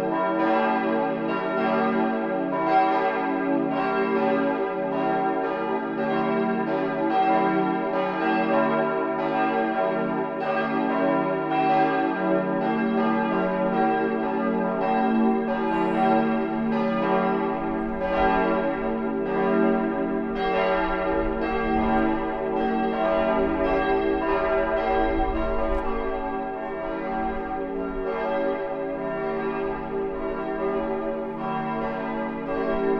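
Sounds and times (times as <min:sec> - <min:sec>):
church bells ringing: 0:00.0 - 0:32.9.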